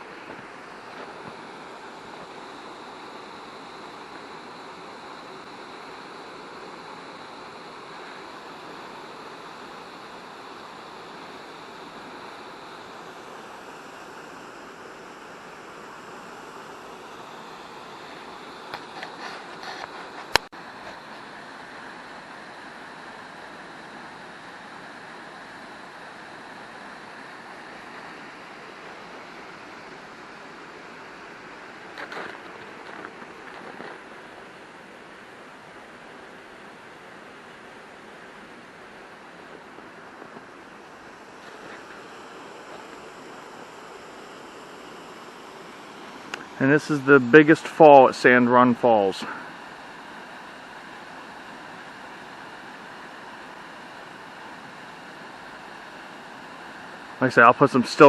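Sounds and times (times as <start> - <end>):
waterfall rushing under ice: 0.0 - 58.0.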